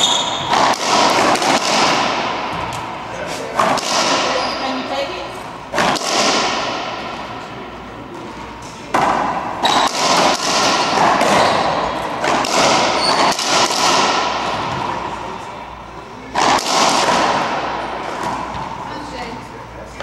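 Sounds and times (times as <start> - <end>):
racquetball hits echoing: 0.0 - 15.4, 16.2 - 19.0.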